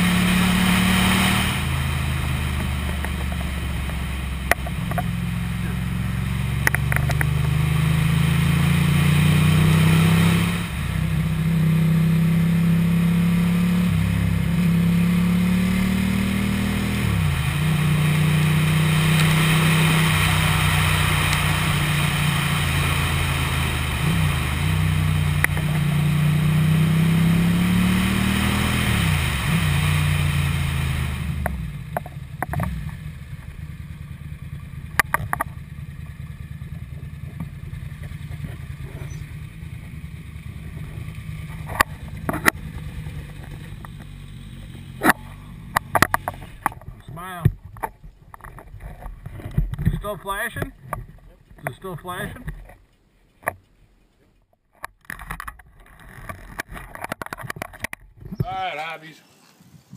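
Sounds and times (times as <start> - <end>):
motorcycle engine shifting gears: 0.0 - 58.6.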